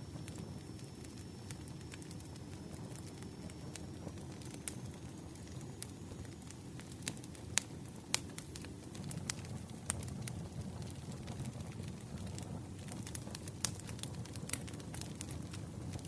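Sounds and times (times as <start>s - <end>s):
firewood crackling and popping: 0.0s - 16.0s
flames rumbling: 0.0s - 16.0s.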